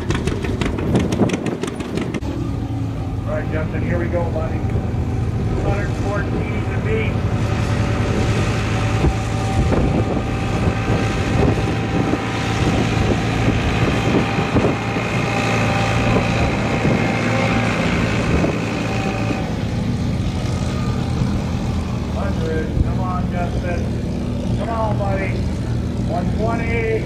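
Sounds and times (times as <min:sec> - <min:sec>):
tractor engine running under load: 0:00.0 - 0:27.0.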